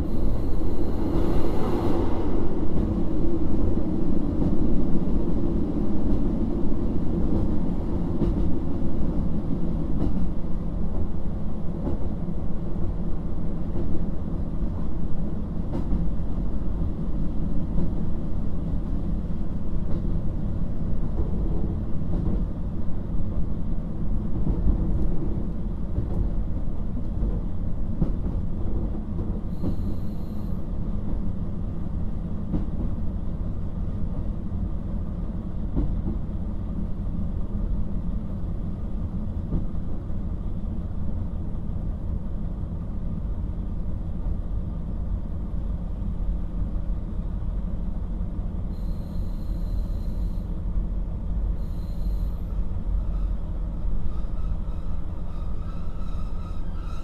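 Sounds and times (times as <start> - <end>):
diesel railcar rumble: 0.0 - 57.0.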